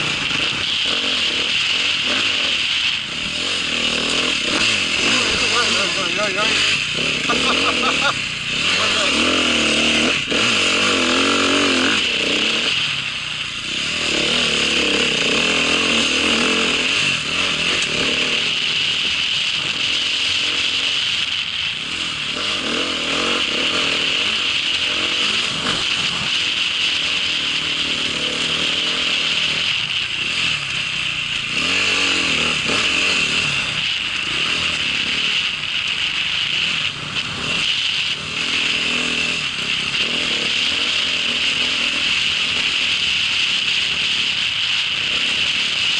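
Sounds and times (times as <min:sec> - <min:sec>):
small engine revving: 0:00.0 - 0:45.9
steady high whine: 0:00.0 - 0:45.9.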